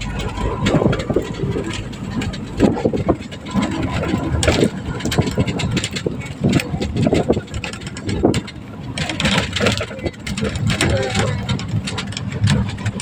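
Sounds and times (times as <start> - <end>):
rattling and clattering: 0.0 - 13.0
vehicle motor running: 0.0 - 13.0.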